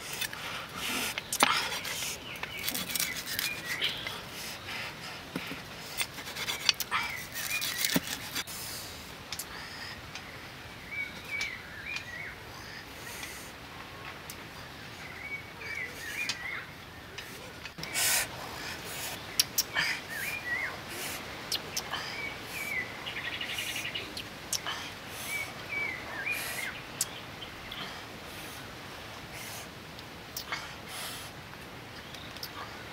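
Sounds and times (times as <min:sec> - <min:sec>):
small birds chirping: 0:00.0 - 0:08.5, 0:09.3 - 0:13.5, 0:14.2 - 0:28.7, 0:30.3 - 0:31.2, 0:31.9 - 0:32.9.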